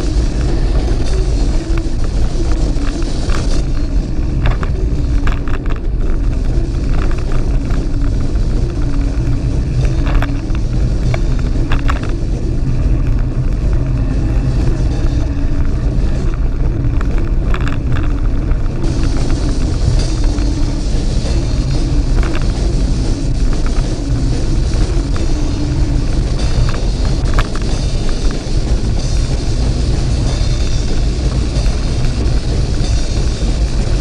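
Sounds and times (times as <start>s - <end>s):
bike rattles and clicks: 0.0s - 34.0s
tyres rumbling on gravel: 0.0s - 34.0s
wind noise: 0.0s - 34.0s.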